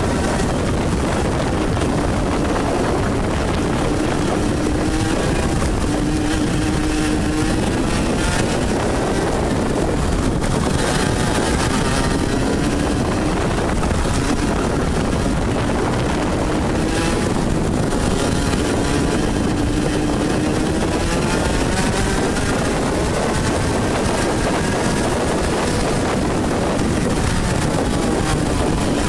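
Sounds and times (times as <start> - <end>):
kart engine running: 0.0 - 29.0
wind noise on microphone: 0.0 - 29.0.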